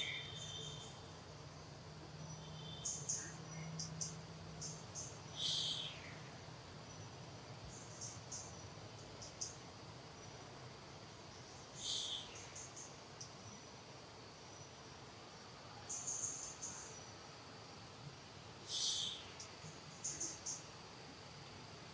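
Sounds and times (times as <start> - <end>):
insects chirping: 0.0 - 21.9.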